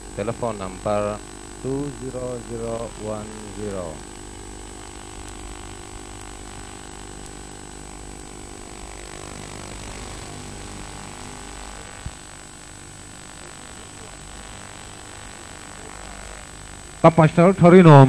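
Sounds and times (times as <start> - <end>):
mains hum: 0.0 - 18.0
tape hiss: 0.0 - 18.0
thin high whine: 0.0 - 18.0.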